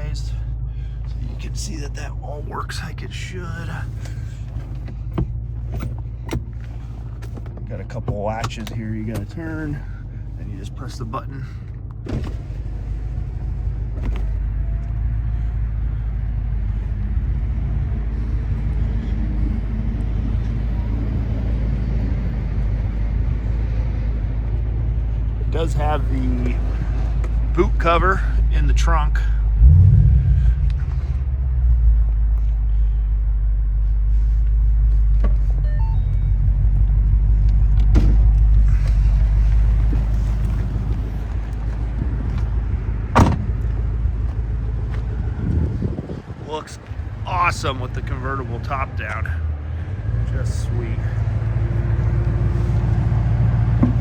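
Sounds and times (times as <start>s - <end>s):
car engine idling: 0.0s - 20.1s, 22.9s - 54.0s.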